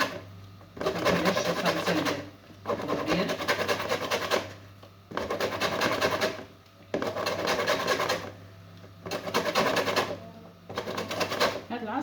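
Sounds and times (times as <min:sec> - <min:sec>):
peel scraping on metal grater: 0:00.8 - 0:08.3, 0:09.1 - 0:11.6.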